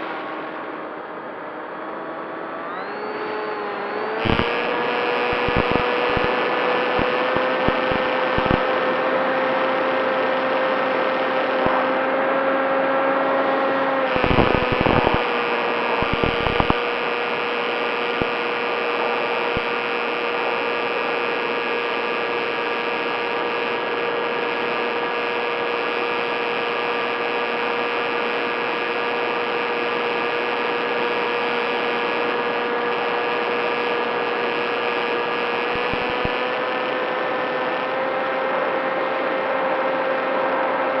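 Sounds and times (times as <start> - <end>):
model plane motor whine: 0.0 - 41.0.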